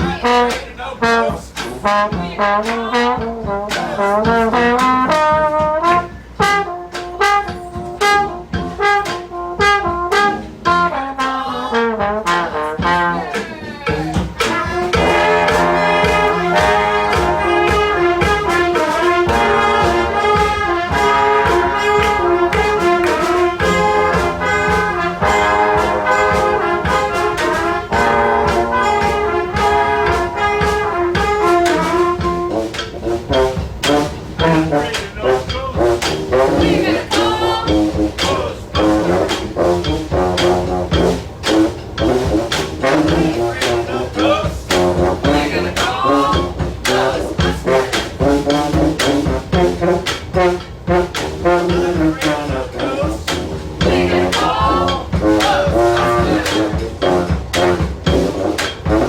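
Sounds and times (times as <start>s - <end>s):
drum hits: 0.0s - 11.0s, 12.0s - 59.0s
brass band playing: 0.0s - 59.0s.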